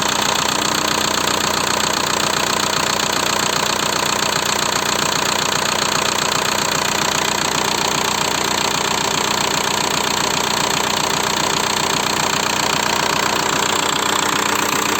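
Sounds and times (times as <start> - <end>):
diesel engine idling with knock: 0.0 - 14.9.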